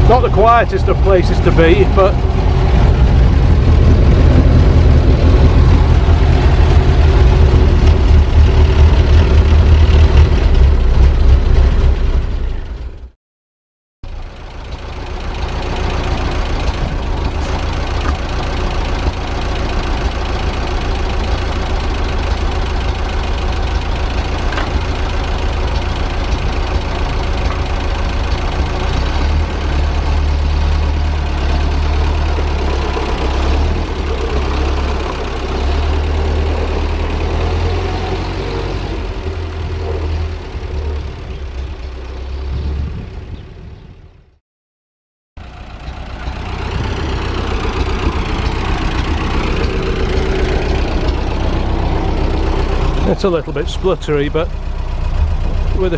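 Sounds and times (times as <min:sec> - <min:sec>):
truck engine idling: 0:00.0 - 0:13.1, 0:14.0 - 0:43.4, 0:45.4 - 0:55.9.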